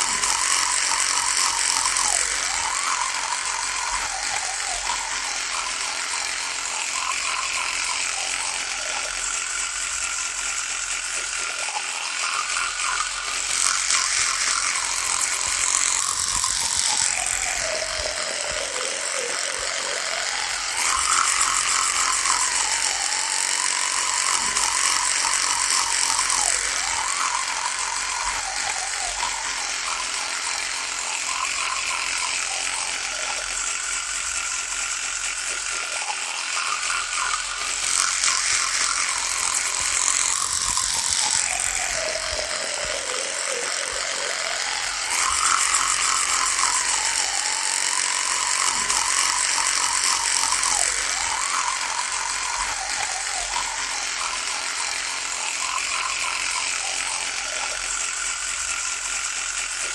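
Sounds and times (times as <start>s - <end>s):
electric toothbrush buzzing: 0.0s - 59.9s.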